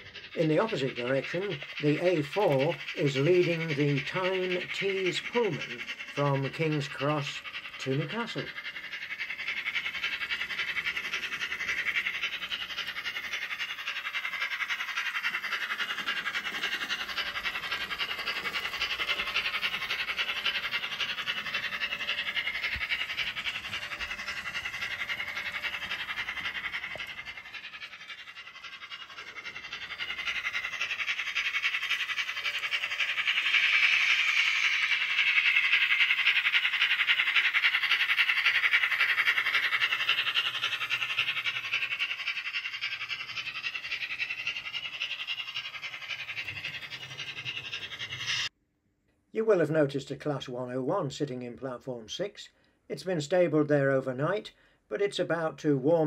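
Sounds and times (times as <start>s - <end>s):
model steam locomotive chuffing: 0.0s - 48.6s, 49.4s - 56.0s.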